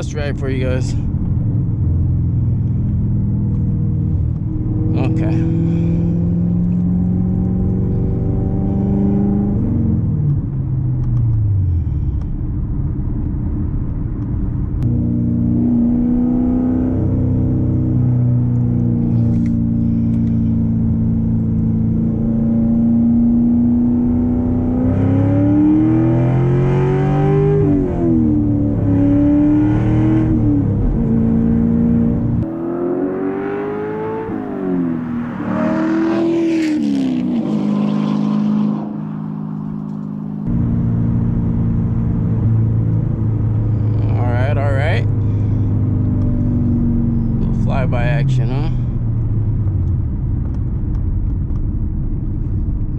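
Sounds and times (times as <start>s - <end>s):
car exhaust revving: 0.0s - 52.9s.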